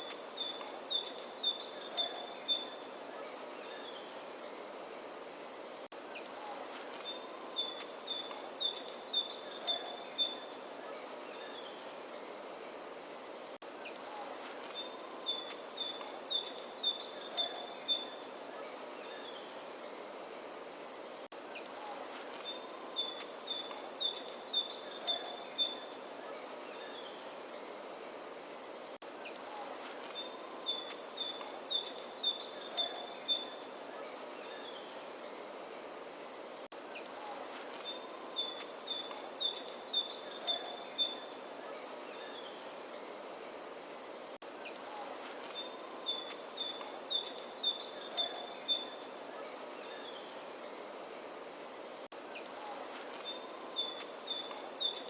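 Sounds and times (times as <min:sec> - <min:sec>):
bird singing: 0:00.0 - 0:55.0
outdoor background hiss: 0:00.0 - 0:55.0.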